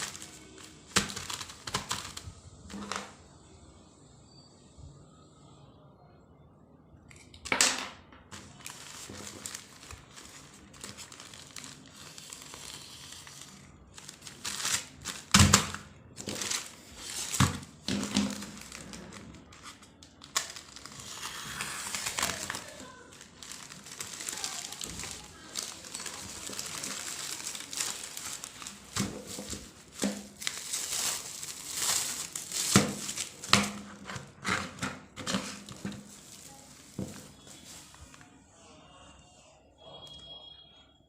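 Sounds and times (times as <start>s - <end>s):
plastic packaging crinkling: 0.0s - 3.2s, 8.3s - 38.3s.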